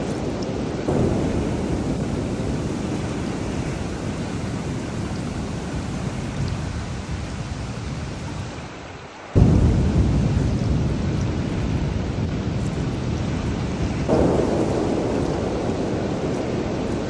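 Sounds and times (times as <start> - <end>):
thunder rumbling: 0.0 - 8.5, 9.4 - 17.0
heavy rain: 0.0 - 17.0.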